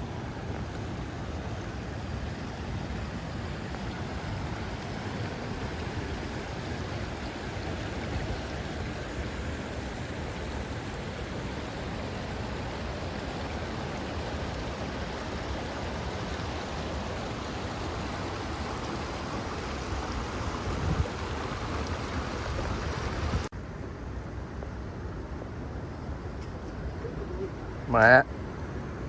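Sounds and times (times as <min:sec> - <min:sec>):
waterfall rushing water: 0:00.0 - 0:23.5
quiet outdoor ambience: 0:00.0 - 0:29.0.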